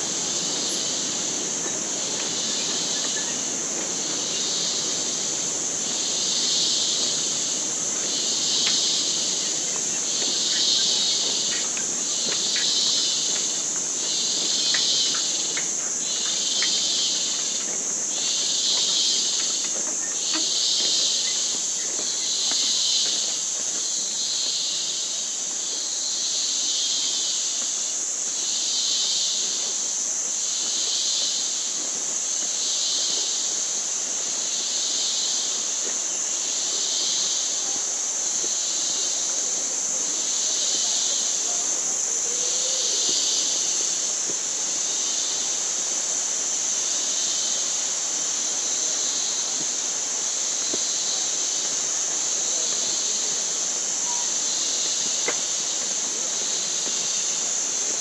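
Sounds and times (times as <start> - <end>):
insect chorus: 0.0 - 58.0
pulsing insect call: 0.0 - 58.0.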